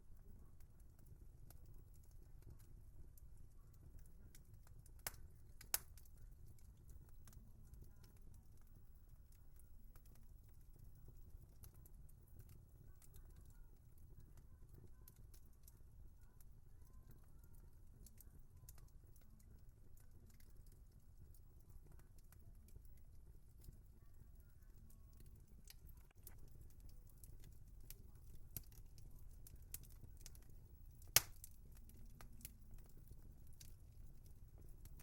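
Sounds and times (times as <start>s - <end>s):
low rumble of burning: 0.0s - 35.0s
wood fire crackling: 0.0s - 35.0s.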